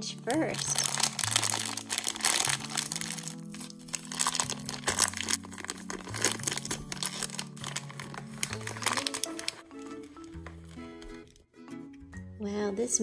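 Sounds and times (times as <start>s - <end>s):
background music: 0.0s - 13.0s
plastic wrapper crinkling and tearing: 0.2s - 11.4s.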